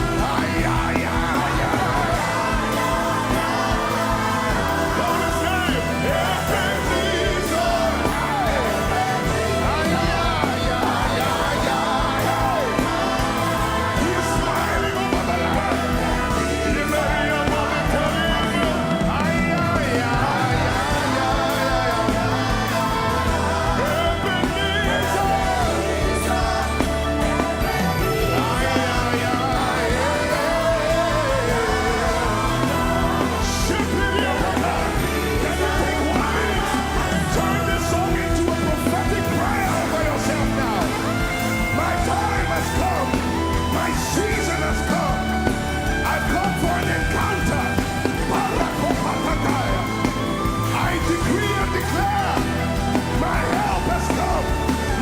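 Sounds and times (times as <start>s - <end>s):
live gospel band: 0.0s - 55.0s
people singing: 0.0s - 55.0s.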